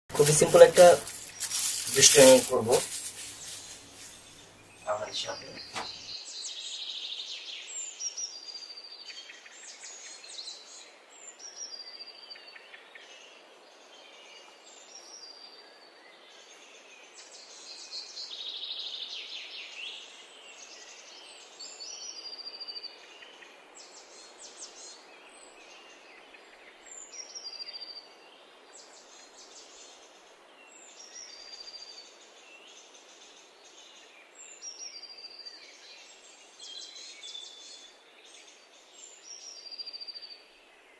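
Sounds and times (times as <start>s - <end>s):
outdoor ambience hiss: 0.1s - 40.9s
songbirds chirping: 0.1s - 40.9s.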